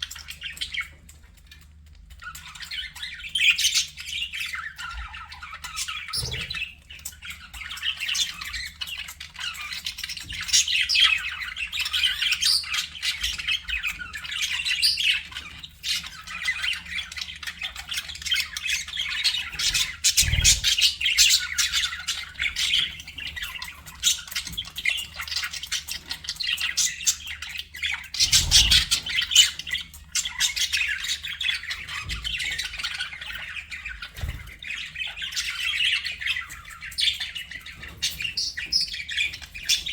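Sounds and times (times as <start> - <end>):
budgerigars chattering: 2.2 - 39.9.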